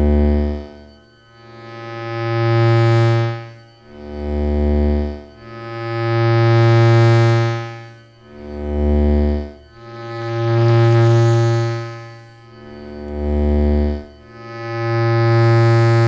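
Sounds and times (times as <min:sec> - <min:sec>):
low two-pitch drone: 0:00.0 - 0:16.0.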